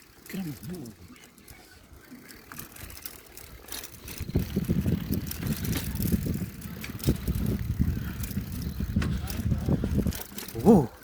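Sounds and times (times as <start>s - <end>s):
bicycle rattling over dirt: 0.0s - 11.0s.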